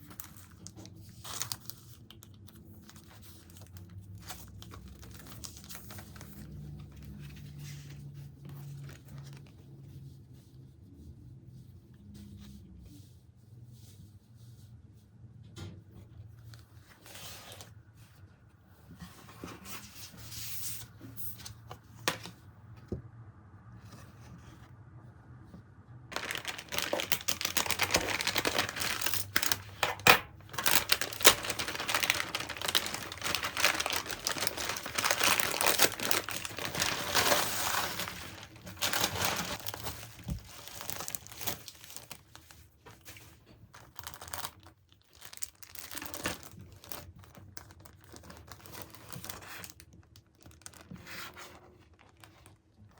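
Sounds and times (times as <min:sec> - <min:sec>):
crinkling and rustling: 0:00.0 - 0:10.6, 0:15.6 - 0:23.0, 0:25.5 - 0:52.9.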